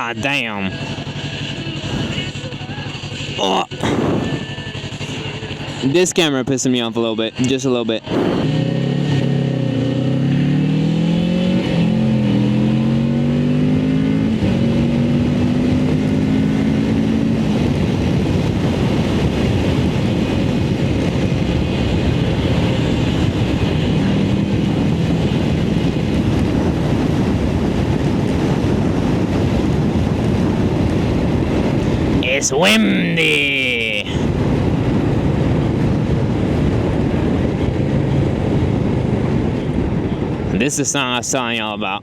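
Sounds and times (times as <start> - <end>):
wind rushing on microphone: 0.0 - 2.8, 3.4 - 42.0
motorcycle engine accelerating: 0.0 - 5.8, 8.0 - 40.5.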